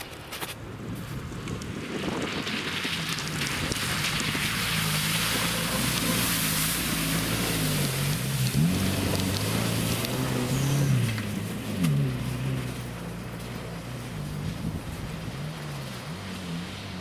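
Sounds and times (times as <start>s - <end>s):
car engine running under load: 0.6s - 17.0s
water and slush spraying: 2.4s - 17.0s.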